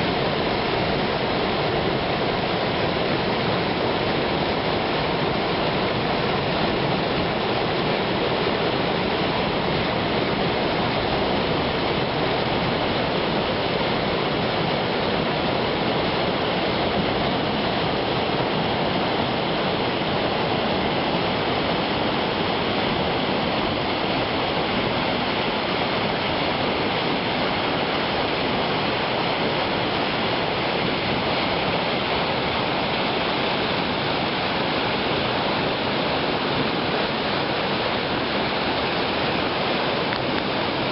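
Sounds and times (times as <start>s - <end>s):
rushing river water: 0.0s - 40.9s.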